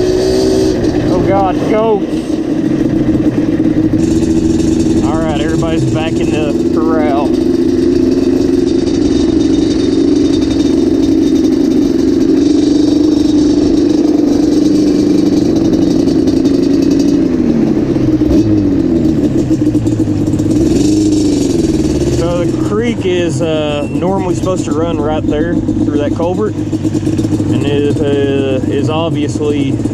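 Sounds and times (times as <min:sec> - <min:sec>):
two-stroke engine revving: 0:00.0 - 0:29.9.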